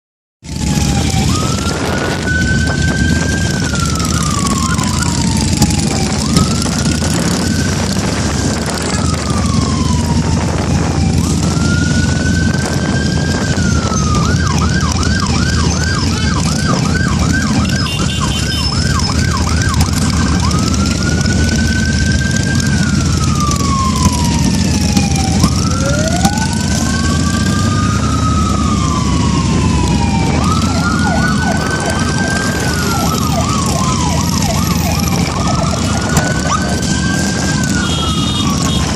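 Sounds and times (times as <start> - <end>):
road noise: 0.4 - 38.9
electronic siren wailing and yelping: 0.5 - 38.9
motorcycle engines running: 0.5 - 38.9.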